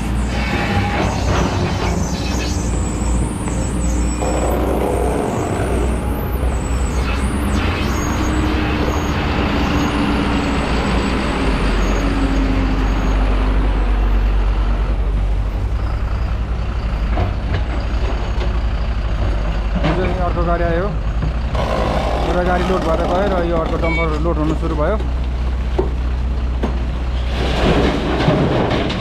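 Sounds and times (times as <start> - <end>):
heavy diesel engines rumbling: 0.0 - 29.0.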